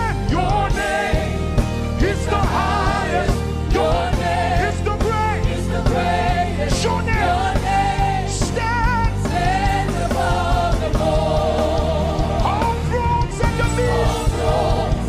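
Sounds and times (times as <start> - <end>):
band with bass and drums: 0.0 - 15.0.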